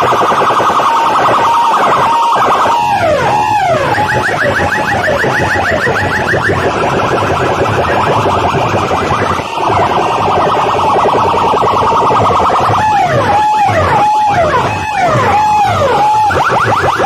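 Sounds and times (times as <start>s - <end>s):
siren effect on sound system: 0.0s - 17.0s.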